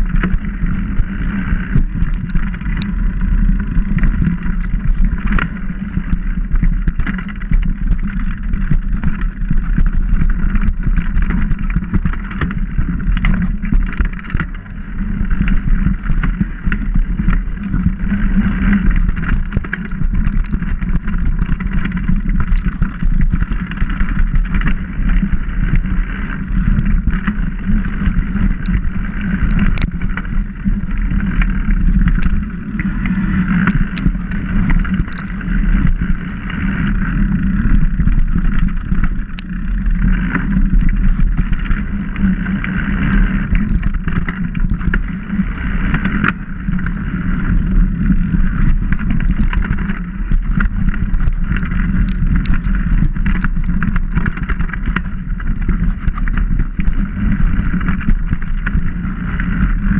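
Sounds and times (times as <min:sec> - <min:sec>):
bike clicks and rattles: 0:00.0 - 0:59.9
wind on microphone: 0:00.0 - 0:59.9.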